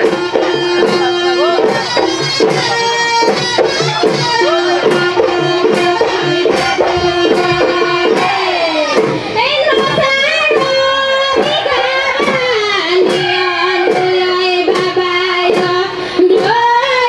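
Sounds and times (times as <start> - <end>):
folk dance music with drums: 0.0 - 17.0.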